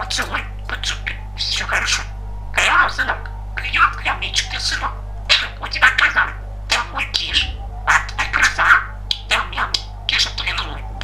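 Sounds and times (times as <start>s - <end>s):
budgerigar warbling: 0.0s - 11.0s
low electrical hum: 0.0s - 11.0s.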